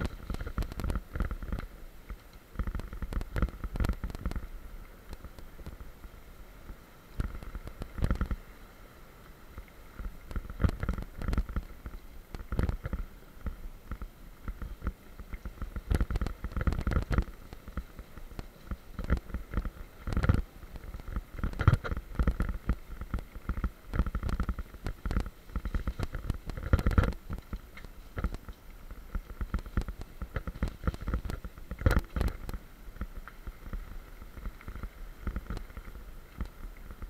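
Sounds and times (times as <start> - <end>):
bike rattling over bumps: 0.0 - 4.5, 10.0 - 37.0
low rumble of rolling tyres: 0.0 - 37.0.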